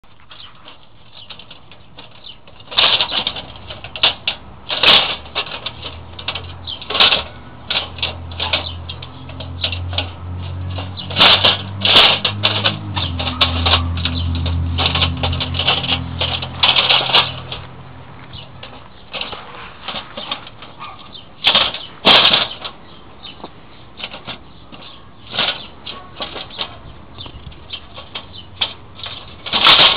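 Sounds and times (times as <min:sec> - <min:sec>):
squirrel rattling wire trap: 0:00.3 - 0:17.6, 0:18.3 - 0:23.3, 0:24.0 - 0:29.9.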